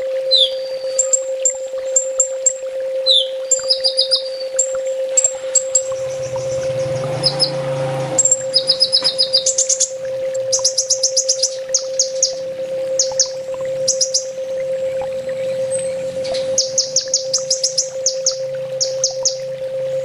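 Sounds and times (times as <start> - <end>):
steady low hum: 0.0 - 20.0
bird chips and trills: 0.3 - 14.4, 15.4 - 19.6.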